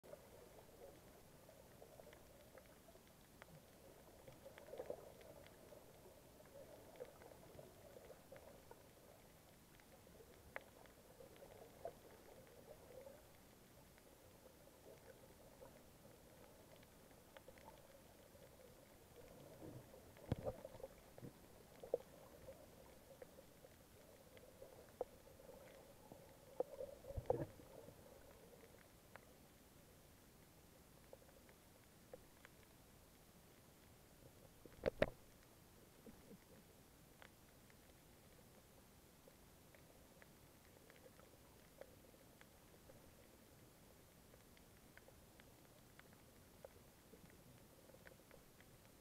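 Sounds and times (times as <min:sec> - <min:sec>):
small clicks and crackles: 0:00.0 - 0:49.0
muffled underwater ambience: 0:00.1 - 0:49.0.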